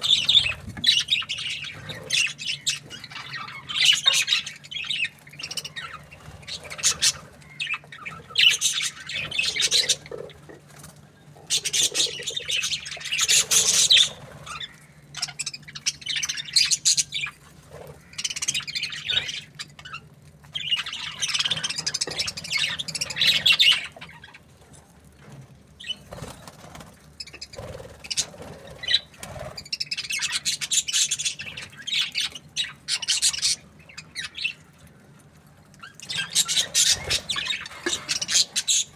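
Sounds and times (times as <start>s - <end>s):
budgerigars chattering and chirping: 0.0s - 24.5s, 25.8s - 34.7s, 35.8s - 38.9s.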